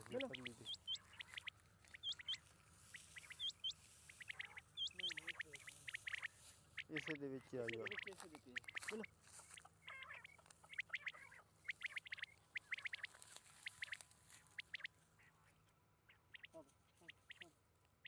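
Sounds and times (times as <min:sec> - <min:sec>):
quail chirping: 0:00.0 - 0:17.6.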